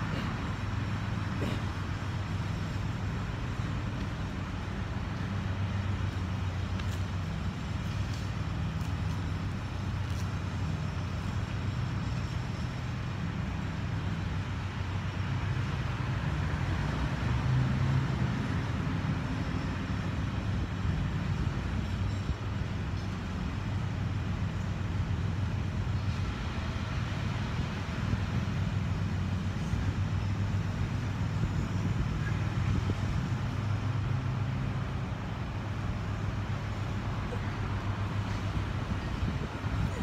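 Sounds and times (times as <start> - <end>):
constant low hum: 0.0 - 17.4, 18.1 - 40.0
road traffic rumble: 0.0 - 40.0.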